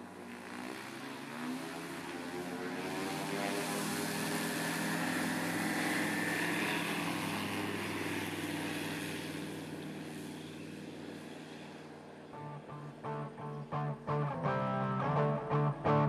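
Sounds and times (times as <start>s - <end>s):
propeller engine running: 0.0s - 16.0s.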